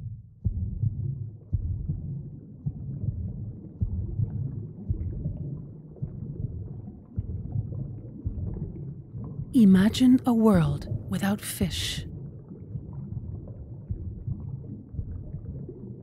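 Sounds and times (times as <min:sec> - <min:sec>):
low underwater rumble: 0:00.4 - 0:09.5, 0:12.1 - 0:16.0.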